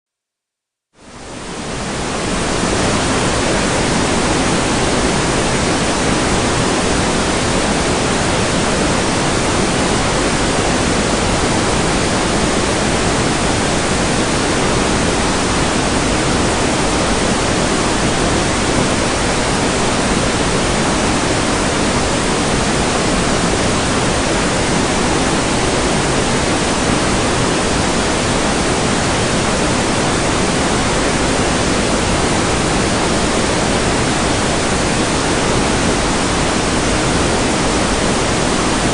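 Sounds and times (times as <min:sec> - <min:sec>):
heavy rain hiss: 0:01.1 - 0:38.9.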